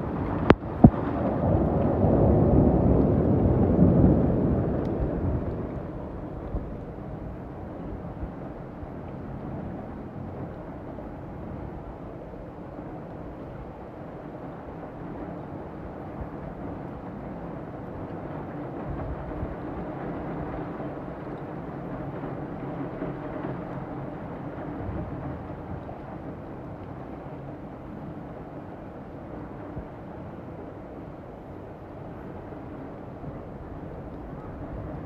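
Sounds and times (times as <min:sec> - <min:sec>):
heavy rain on a street: 0:00.0 - 0:35.0.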